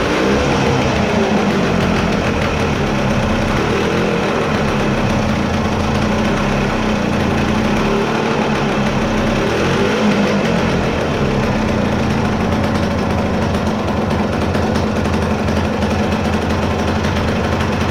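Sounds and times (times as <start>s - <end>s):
two-stroke motorcycle engine idling: 0.0s - 17.9s.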